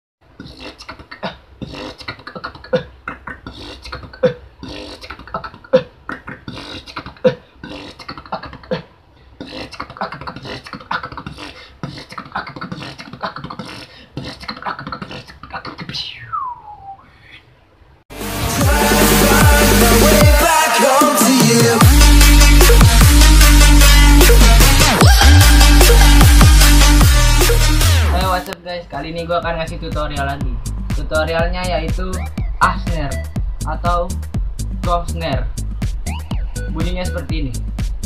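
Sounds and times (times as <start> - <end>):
person beatboxing: 0.3 - 17.5, 18.6 - 28.6, 29.6 - 38.0.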